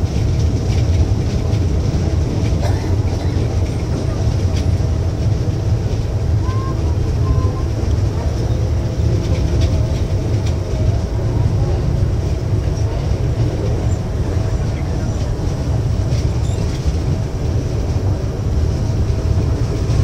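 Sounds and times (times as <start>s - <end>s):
faint train hum: 0.0s - 20.0s
train wheels rumbling on rail: 0.0s - 20.0s
wind buffeting microphone: 0.0s - 20.0s.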